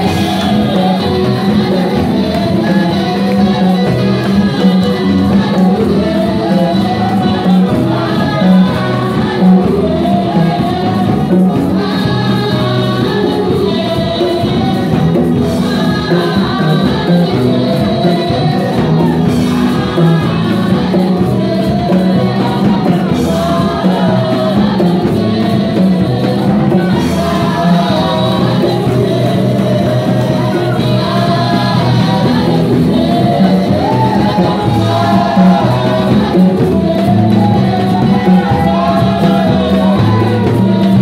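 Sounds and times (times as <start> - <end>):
band playing: 0.0 - 41.0
women singing gospel: 0.0 - 41.0.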